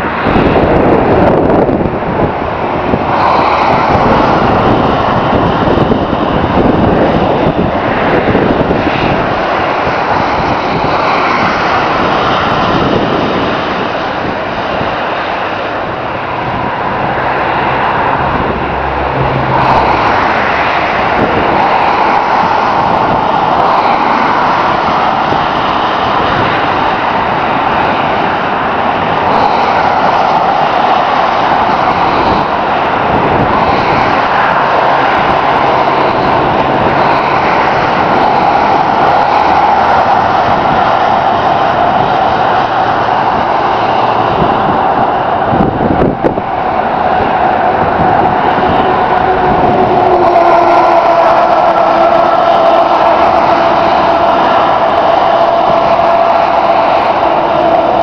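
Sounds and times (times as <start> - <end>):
low engine hum: 0.0 - 58.0
passing cars tyre and engine noise: 0.0 - 58.0.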